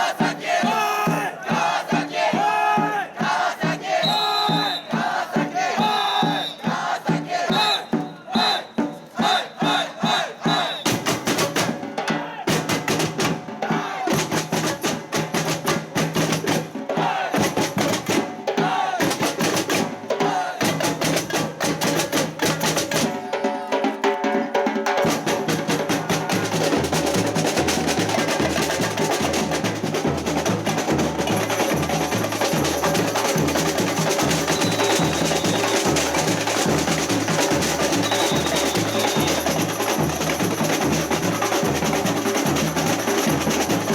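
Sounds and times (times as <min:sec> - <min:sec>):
rapid drum strikes: 0:00.0 - 0:43.9.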